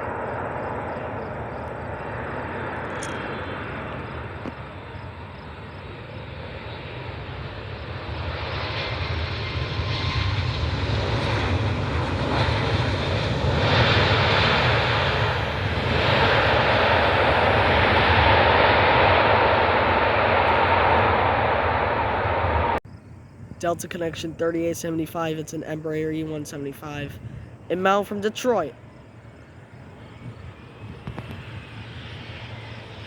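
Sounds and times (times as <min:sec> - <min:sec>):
jet engines on landing approach: 0:00.0 - 0:24.8, 0:25.4 - 0:33.0.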